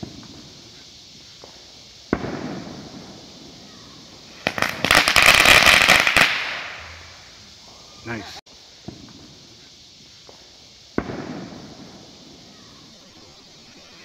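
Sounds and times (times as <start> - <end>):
firework pop and hiss: 0.0 - 7.8, 8.5 - 14.0
firework dense crackling: 0.0 - 14.0.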